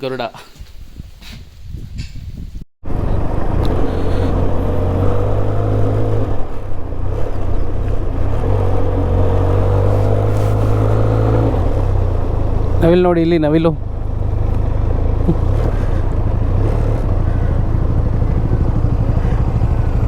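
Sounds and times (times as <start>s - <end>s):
motorcycle engine running: 2.9s - 20.0s.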